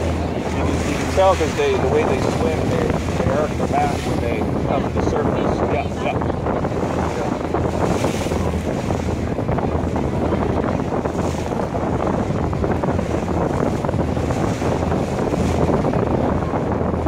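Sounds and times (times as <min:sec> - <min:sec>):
ferry engine drone: 0:00.0 - 0:17.0
wash of water: 0:00.0 - 0:17.0
wind buffeting microphone: 0:00.0 - 0:17.0.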